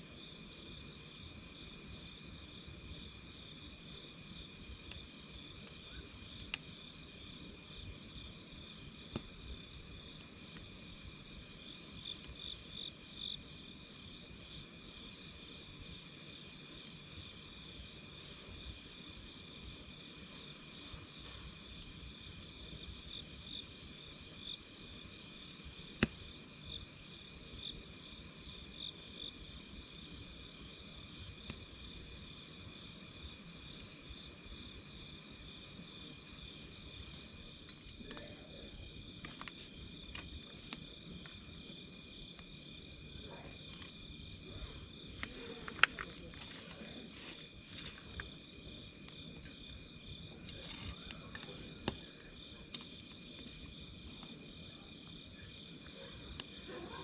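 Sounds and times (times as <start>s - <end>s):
campfire crackling and popping: 0.0s - 57.0s
insects chirping: 0.0s - 57.0s.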